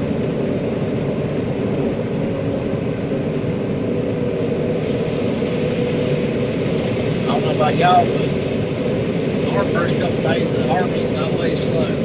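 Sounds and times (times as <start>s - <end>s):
combine harvester drone: 0.0s - 12.0s
faint steady whine: 0.0s - 12.0s.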